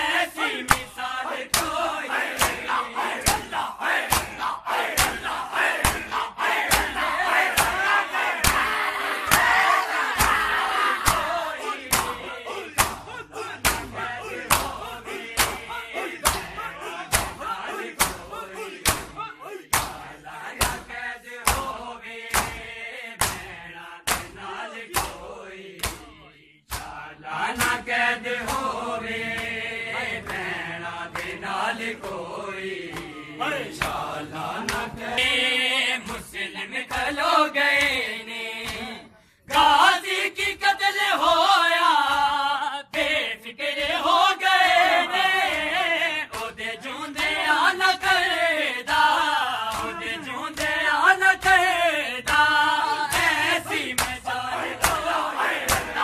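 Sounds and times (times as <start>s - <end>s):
men chanting a lament: 0.0s - 56.0s
hands slapping chests in unison: 0.4s - 40.7s, 42.0s - 56.0s.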